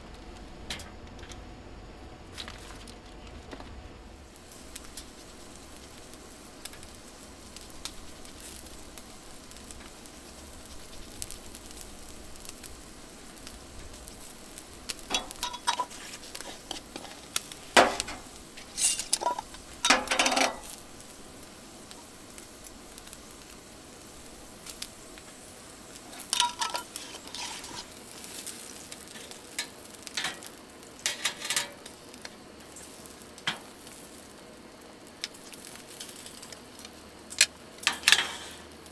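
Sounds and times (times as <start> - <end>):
fat crackling and popping: 0.0 - 38.9
meat sizzling on a grill: 4.0 - 38.9.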